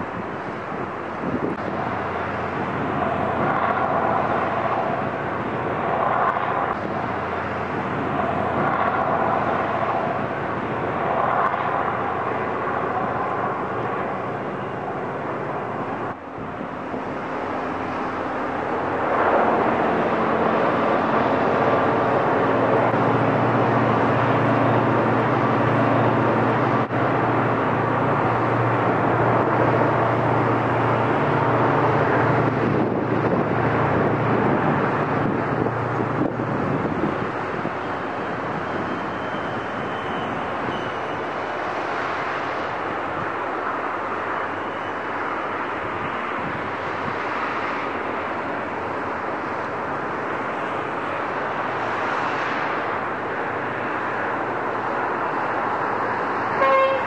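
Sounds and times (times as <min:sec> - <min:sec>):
diesel locomotive engines droning: 0:00.0 - 0:57.0.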